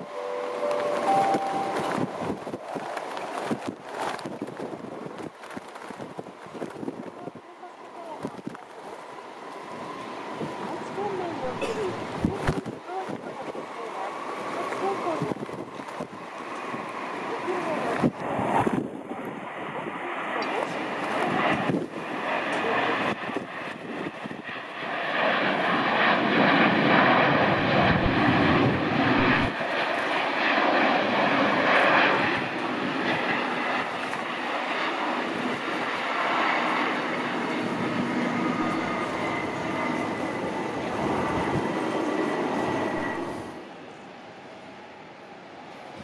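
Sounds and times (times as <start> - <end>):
jet engines roaring: 0.0 - 46.0
wind buffeting microphone: 1.3 - 8.8, 9.6 - 43.6.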